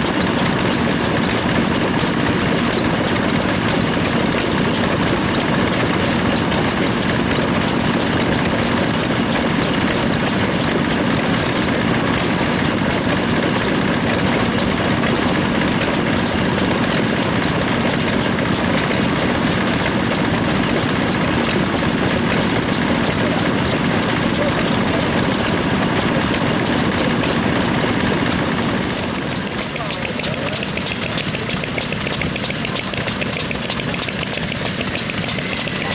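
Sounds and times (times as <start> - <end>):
stationary engine running: 0.0 - 35.9.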